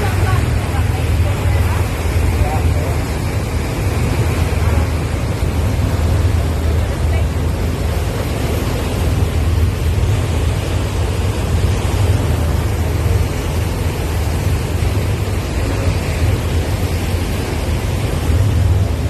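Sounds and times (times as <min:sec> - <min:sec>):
churning wake rushing: 0:00.0 - 0:19.0.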